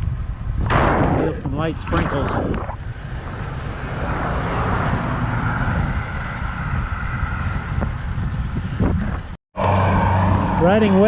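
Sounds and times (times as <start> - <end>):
wind rush on microphone: 0.0 - 11.0
road traffic hum: 1.4 - 11.0.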